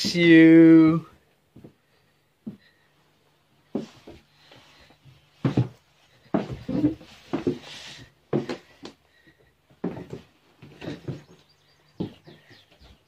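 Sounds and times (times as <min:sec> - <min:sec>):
footsteps going down stairs: 0:00.0 - 0:13.0.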